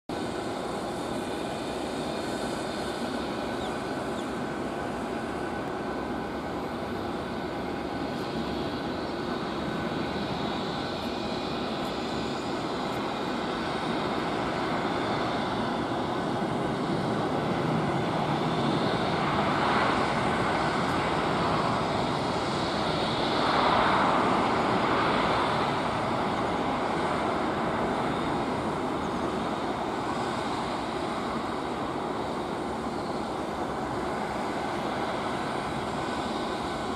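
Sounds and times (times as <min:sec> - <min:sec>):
jet engines rushing: 0:00.1 - 0:36.9.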